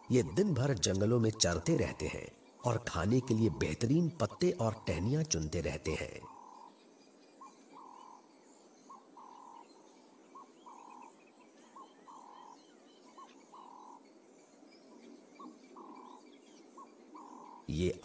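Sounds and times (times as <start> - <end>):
frog calls: 0.0 - 6.8, 7.4 - 14.1, 15.4 - 18.0.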